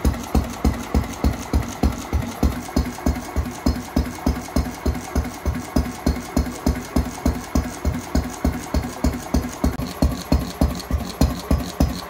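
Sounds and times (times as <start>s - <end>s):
stationary engine exhaust beating: 0.0s - 12.0s.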